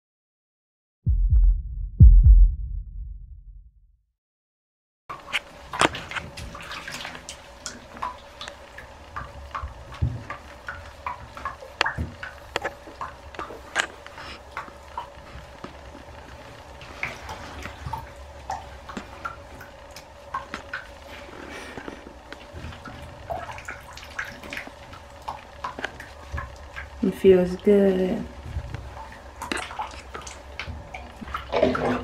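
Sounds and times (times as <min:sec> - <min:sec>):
bathwater splashing in a tub: 0:05.1 - 0:32.0
water dripping: 0:05.1 - 0:32.0.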